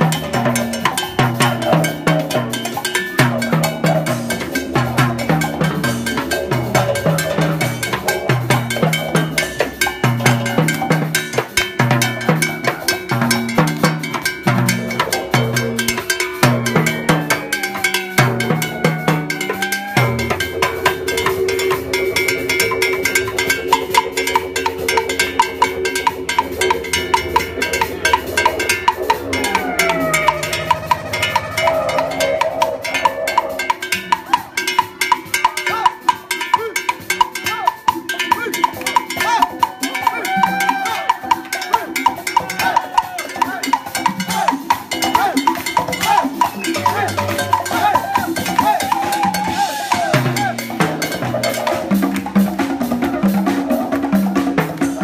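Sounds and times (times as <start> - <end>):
cowbell pattern: 0.0 - 55.0
timbales and congas: 0.0 - 55.0
wavering pitched melody: 0.0 - 55.0.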